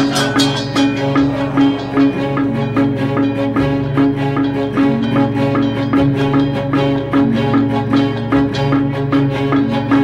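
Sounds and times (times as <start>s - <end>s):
gamelan music: 0.0s - 10.0s.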